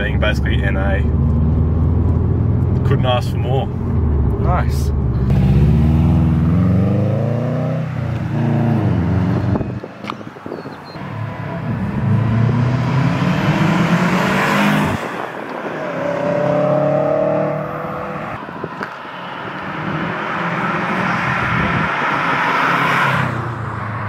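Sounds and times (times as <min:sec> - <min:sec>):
car engine revving: 0:00.7 - 0:10.2, 0:11.0 - 0:24.0.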